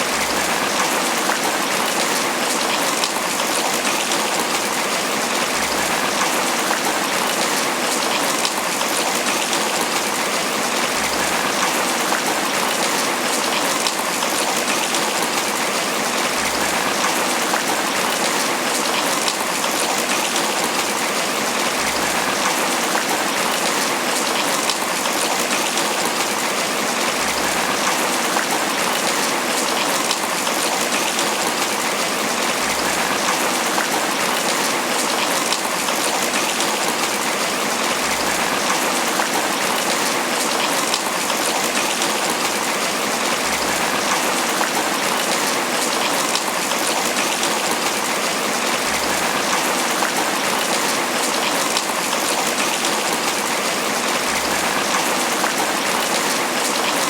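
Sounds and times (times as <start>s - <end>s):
rain patter on leaves: 0.0s - 57.0s.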